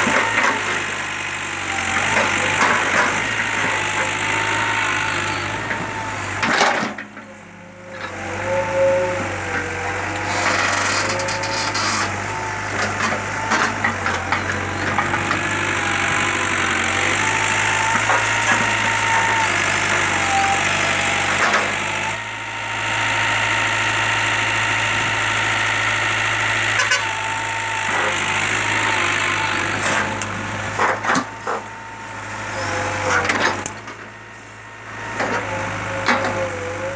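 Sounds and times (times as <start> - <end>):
backhoe engine humming: 0.0 - 36.9.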